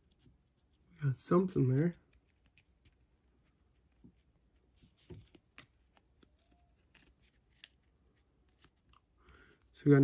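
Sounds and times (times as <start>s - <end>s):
trading cards clicking and rustling: 1.3s - 10.0s.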